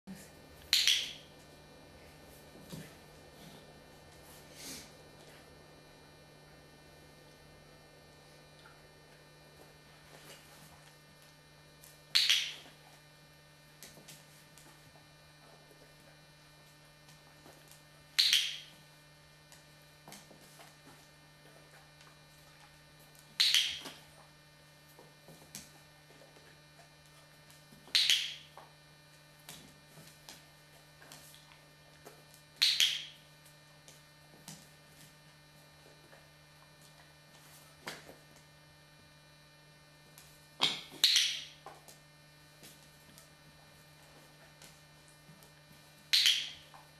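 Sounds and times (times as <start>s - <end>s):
low electrical hum: 0.0s - 46.9s.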